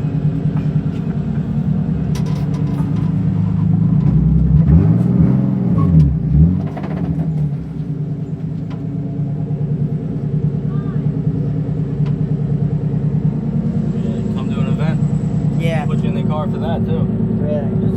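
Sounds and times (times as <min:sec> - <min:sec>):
race car engine revving: 0:00.0 - 0:17.9.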